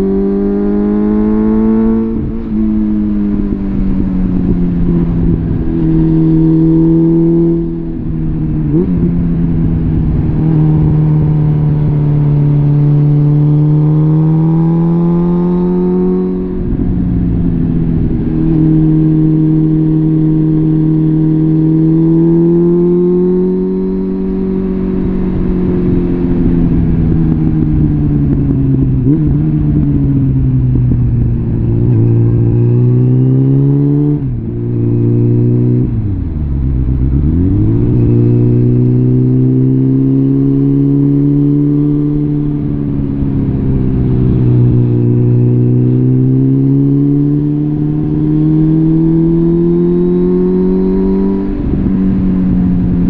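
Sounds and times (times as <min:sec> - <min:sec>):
motorcycle engine: 0:00.0 - 0:53.0.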